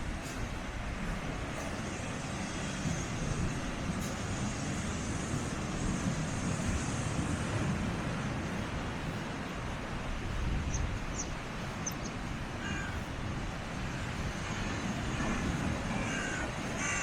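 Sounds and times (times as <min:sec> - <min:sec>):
sea surf washing against rocks: 0:00.0 - 0:17.0.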